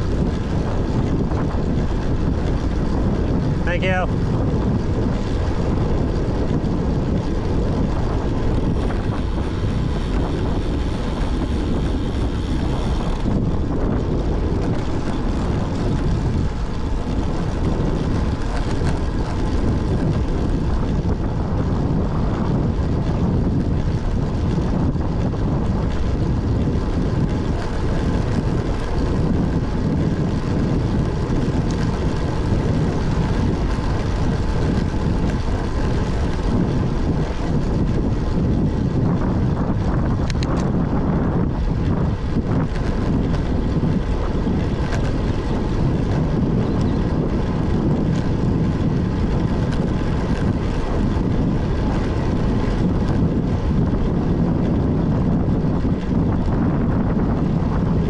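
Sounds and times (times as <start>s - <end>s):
tyre noise on asphalt: 0.0s - 58.0s
wind rushing over microphone: 0.0s - 58.0s.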